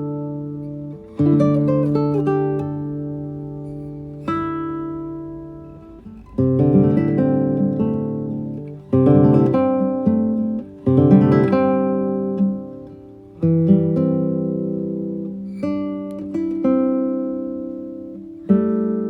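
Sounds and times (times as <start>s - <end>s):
acoustic guitar chords ringing: 0.0s - 19.0s.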